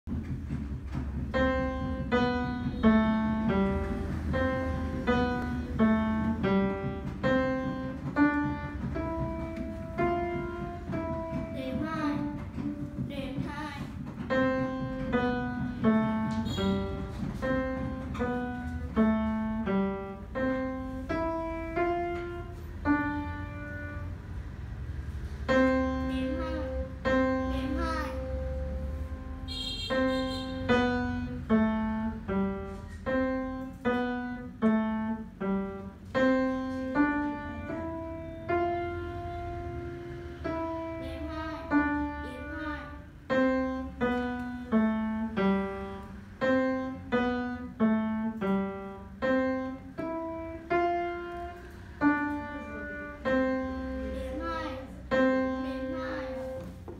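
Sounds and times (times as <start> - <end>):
piano piece: 0.0 - 56.9.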